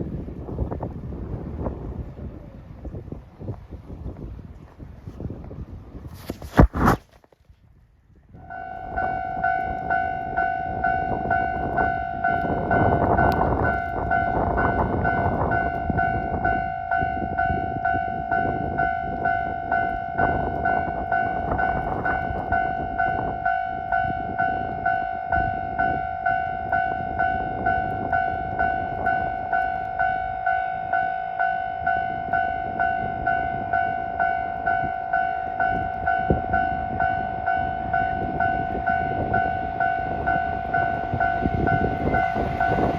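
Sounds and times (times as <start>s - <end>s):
level-crossing warning bell: 8.4s - 42.9s
train rumbling over rails: 8.4s - 42.9s.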